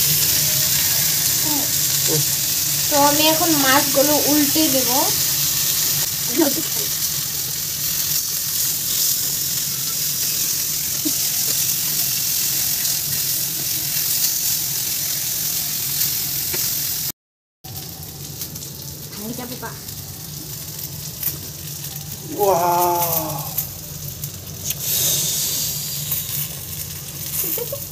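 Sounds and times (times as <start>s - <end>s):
fish sizzling in hot oil: 0.0s - 17.1s, 17.7s - 27.9s.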